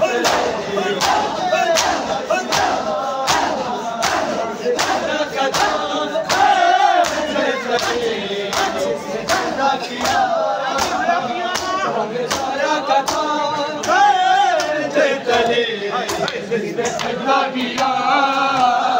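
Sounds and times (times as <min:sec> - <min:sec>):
crowd of men chanting: 0:00.0 - 0:18.9
hands beating chests in unison: 0:00.0 - 0:18.9.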